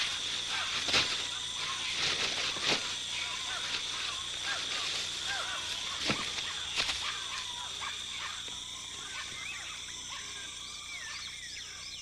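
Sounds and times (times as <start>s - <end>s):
high insect drone: 0.0s - 12.0s
chirping animal calls: 0.4s - 12.0s.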